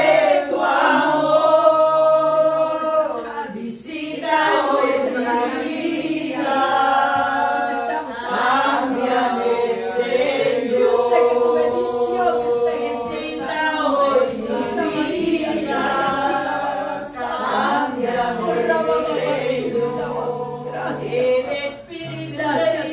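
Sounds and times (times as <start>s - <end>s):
group singing a worship song: 0.0s - 22.9s.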